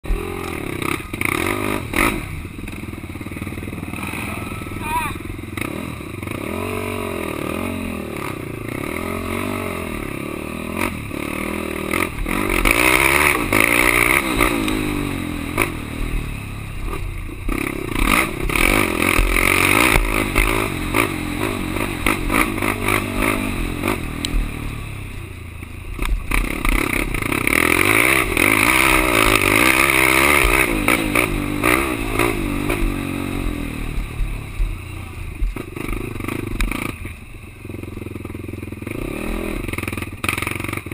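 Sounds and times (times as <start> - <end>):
quad engine revving: 0.0 - 25.2, 26.0 - 40.9.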